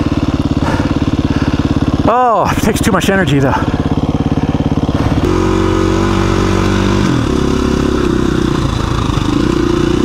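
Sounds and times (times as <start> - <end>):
dirt bike engine chugging: 0.0 - 10.0.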